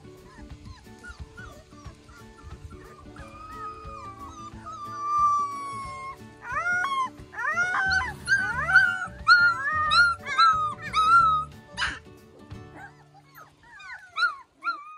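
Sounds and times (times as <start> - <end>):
background music: 0.0 - 14.9
puppies whining and yipping: 0.0 - 14.9.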